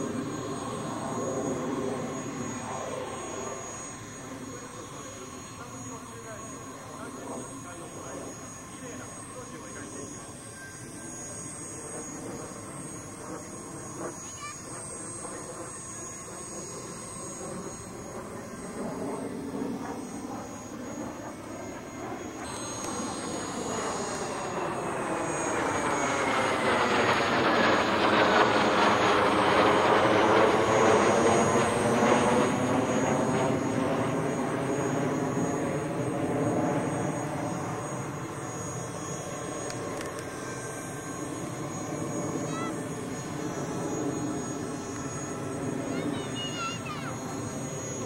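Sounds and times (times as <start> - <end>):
jet engines flying past: 0.0 - 48.0
jet whine falling in pitch: 0.0 - 48.0.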